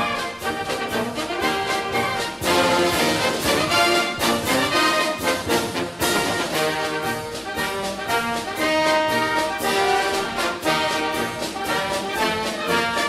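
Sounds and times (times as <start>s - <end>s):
orchestral music led by brass: 0.0s - 13.0s.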